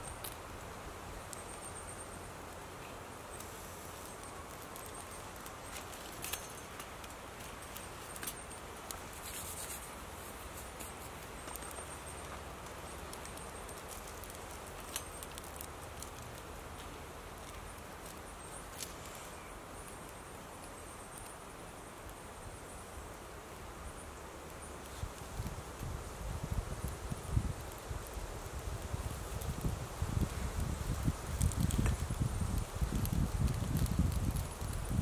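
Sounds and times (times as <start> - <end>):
fire hissing: 0.0 - 35.0
wood fire crackling: 0.0 - 35.0.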